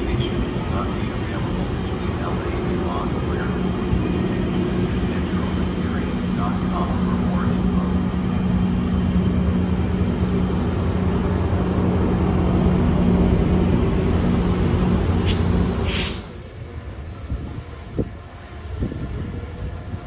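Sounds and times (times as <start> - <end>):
distant freight train: 0.0 - 20.0
train passing close by: 0.0 - 20.0.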